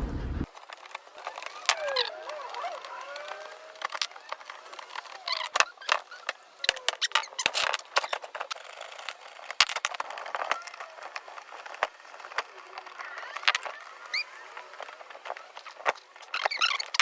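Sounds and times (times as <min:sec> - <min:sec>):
faint squeaky glides: 0:00.6 - 0:09.6, 0:10.2 - 0:17.0.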